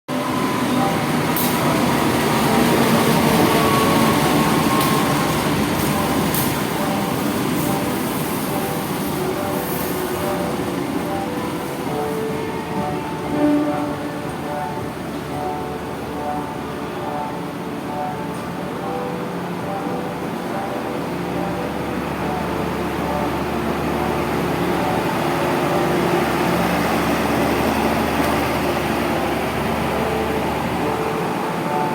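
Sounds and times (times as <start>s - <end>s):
train rumbling on rails: 0.1s - 31.9s.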